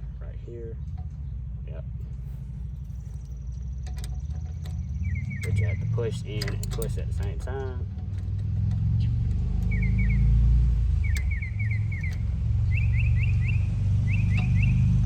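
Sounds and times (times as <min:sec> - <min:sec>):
engine idling rumble: 0:00.0 - 0:15.0
bird chirps: 0:00.6 - 0:06.6, 0:08.8 - 0:15.0.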